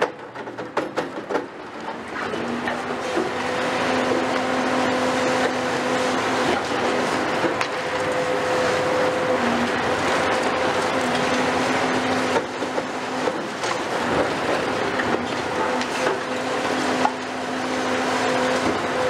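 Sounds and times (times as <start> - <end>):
excavator engine and hydraulics whining: 0.0 - 19.0.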